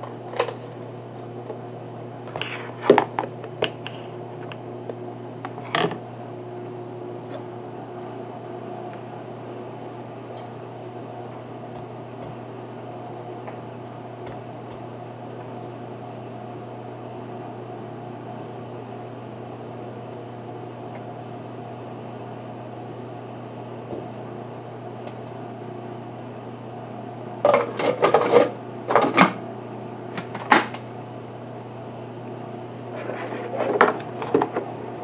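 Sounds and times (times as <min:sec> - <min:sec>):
kitchen appliance humming: 0:00.0 - 0:35.0.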